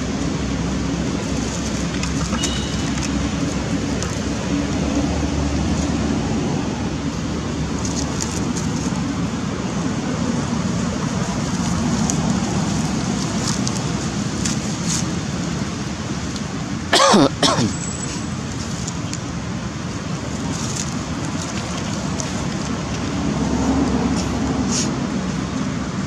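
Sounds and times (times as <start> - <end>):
road traffic hum: 0.0 - 26.0.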